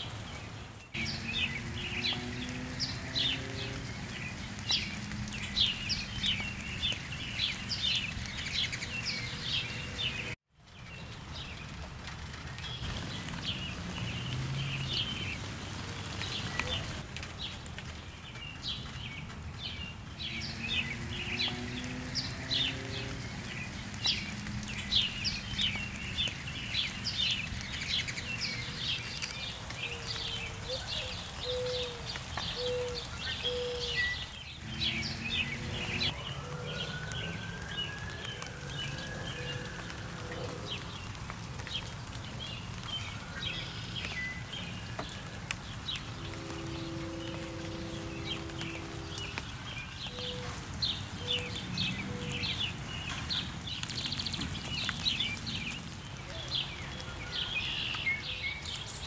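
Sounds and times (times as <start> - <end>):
rain: 0.0 - 59.0
small birds chirping: 0.0 - 59.0.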